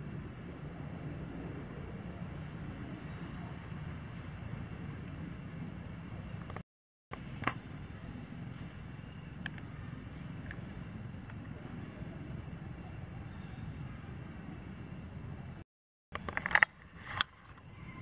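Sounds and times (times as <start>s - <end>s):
insects chorus: 0.0s - 15.6s, 16.2s - 18.0s.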